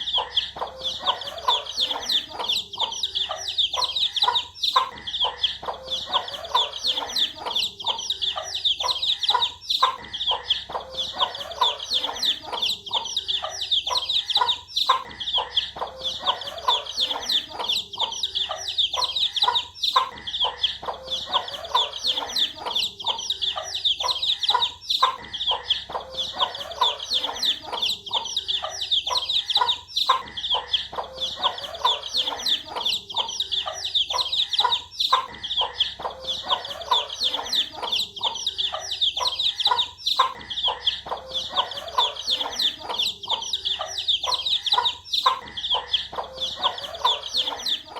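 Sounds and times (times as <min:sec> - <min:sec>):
baby chicks peeping: 0:00.0 - 0:47.9
hen clucking: 0:00.0 - 0:47.9.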